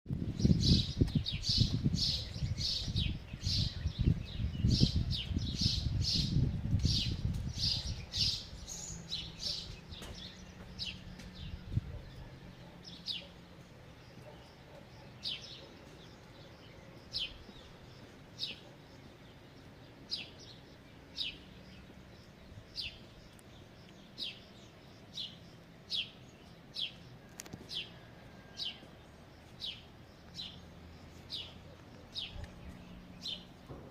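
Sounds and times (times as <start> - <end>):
small songbird chirping: 0.2 - 33.9.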